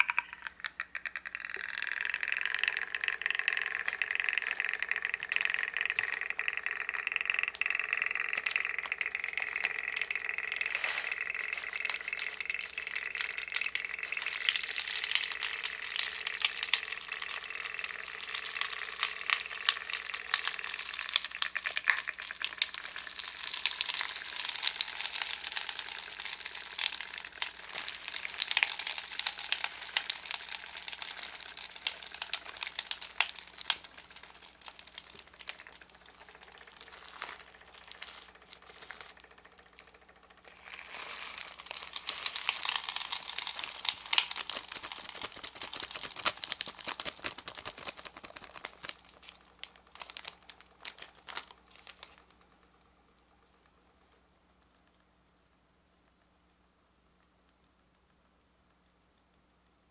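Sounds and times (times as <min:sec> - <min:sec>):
popping candy crackling: 0:00.0 - 0:53.8.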